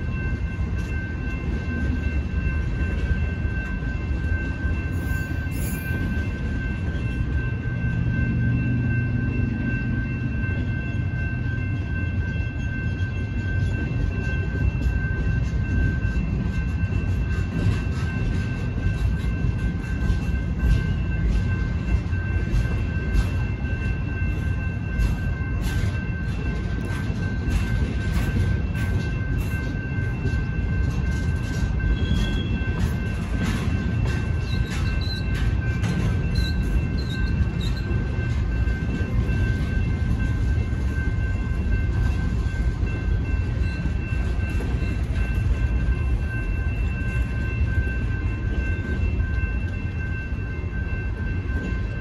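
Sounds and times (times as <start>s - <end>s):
freight train rumbling: 0.0s - 52.0s.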